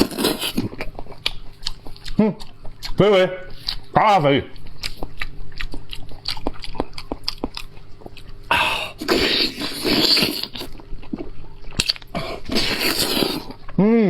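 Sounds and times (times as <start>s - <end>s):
person chewing meat: 0.0s - 13.8s.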